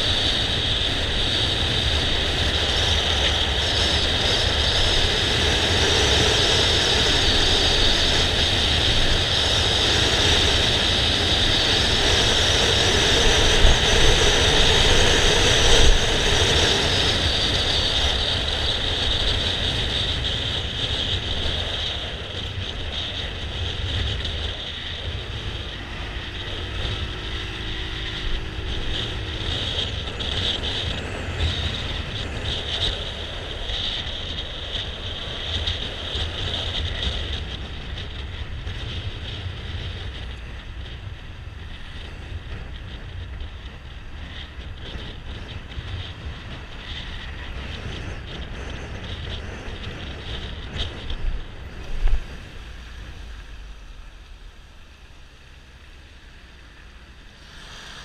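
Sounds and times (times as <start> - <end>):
motor scooter engine: 0.0 - 58.0
wind rush: 0.0 - 58.0.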